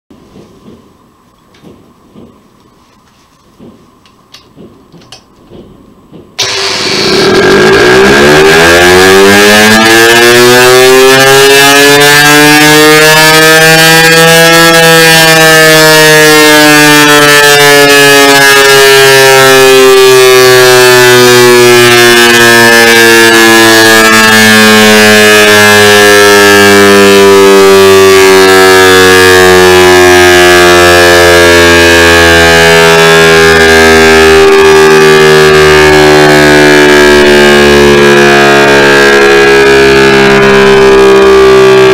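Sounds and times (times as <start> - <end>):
motor siren wailing: 6.4 - 41.9.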